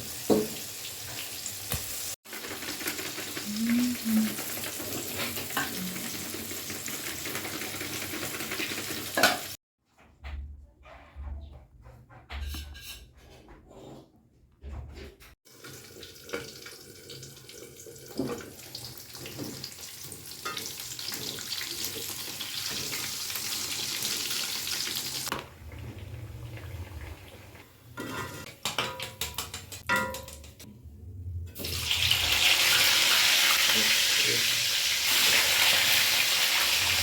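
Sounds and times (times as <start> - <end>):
tap water running: 0.0 - 9.6, 15.5 - 30.7, 31.6 - 37.0.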